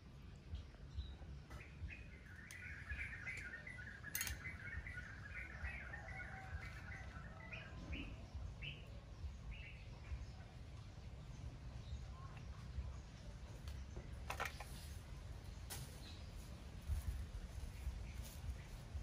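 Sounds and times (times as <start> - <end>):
birds chirping and twittering: 0.0 - 19.0.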